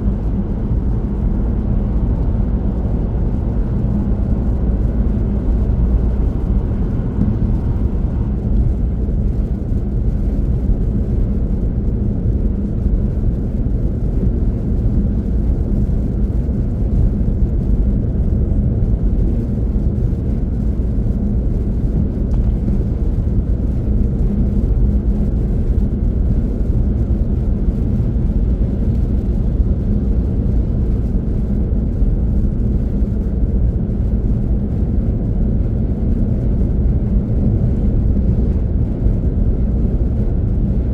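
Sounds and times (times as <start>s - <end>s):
car driving at speed: 0.0s - 40.9s.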